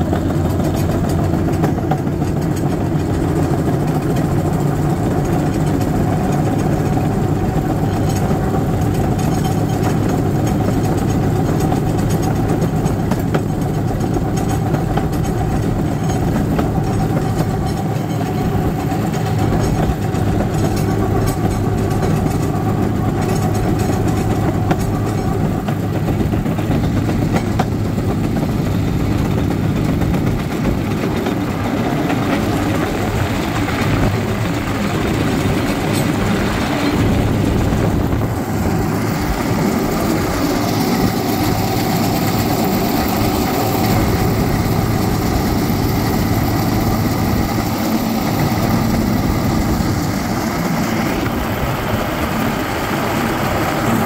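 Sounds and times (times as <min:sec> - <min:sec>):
small gasoline engine running: 0:00.0 - 0:54.0
steel wheels clicking on rails: 0:00.0 - 0:54.0.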